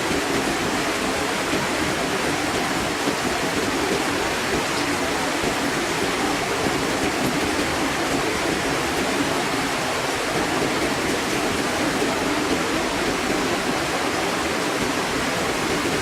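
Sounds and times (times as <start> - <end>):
water spilling over waterfall: 0.0 - 16.0.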